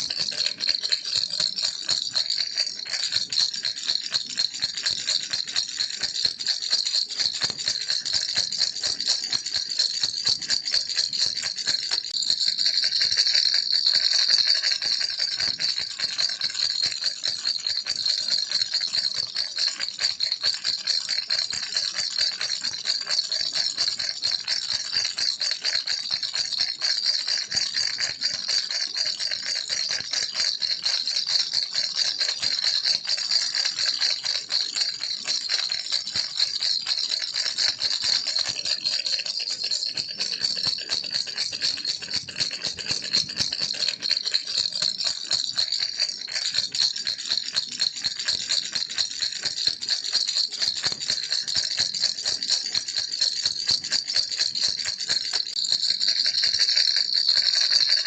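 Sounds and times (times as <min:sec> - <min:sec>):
toy rattle shaken: 0:00.0 - 0:58.0.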